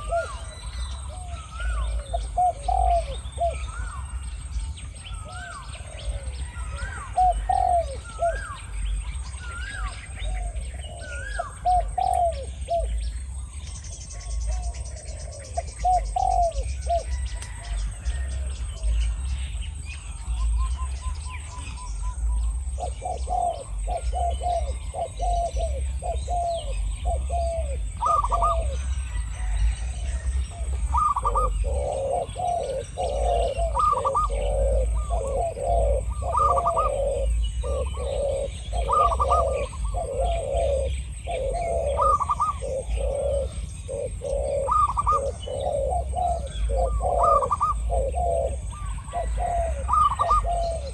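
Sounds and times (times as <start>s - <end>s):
doves cooing: 0.0s - 50.9s.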